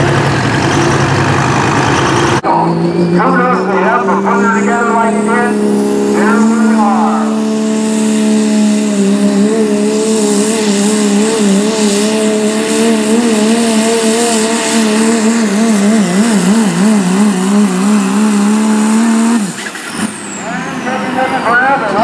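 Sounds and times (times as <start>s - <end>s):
diesel engine at full throttle: 0.0s - 22.0s.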